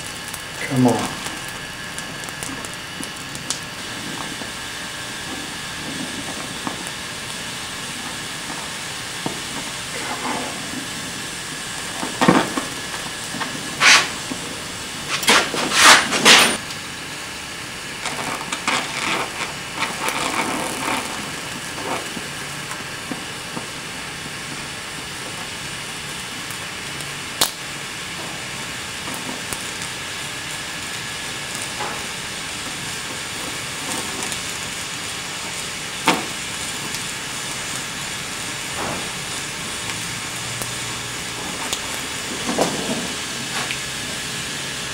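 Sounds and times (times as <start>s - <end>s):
loud crackles and pops: 0.0s - 44.9s
welding torch flame hissing: 0.0s - 44.9s.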